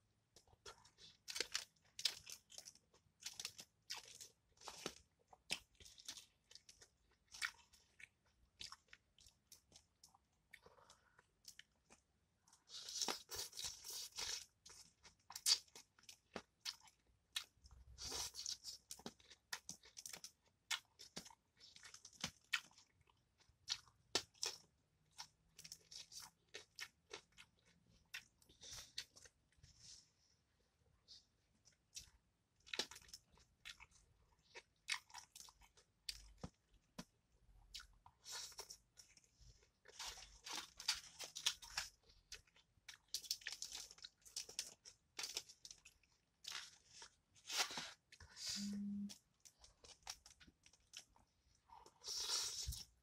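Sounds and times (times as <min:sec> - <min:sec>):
chewing crunchy fried fish: 0:00.3 - 0:29.6, 0:31.6 - 0:53.0.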